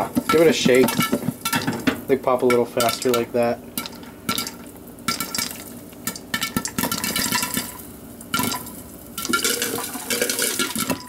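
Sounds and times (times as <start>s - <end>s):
popcorn popping: 0.0s - 11.0s.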